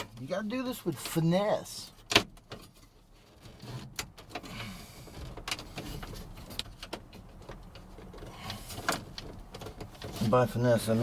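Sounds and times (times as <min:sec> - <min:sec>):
rustling and scraping: 0:00.0 - 0:11.0.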